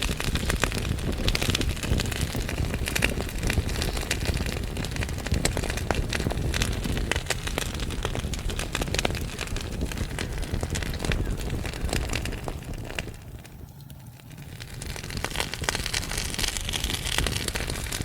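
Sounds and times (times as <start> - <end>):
logs crackling and popping: 0.0 - 18.0
low rumble of flame: 0.0 - 18.0.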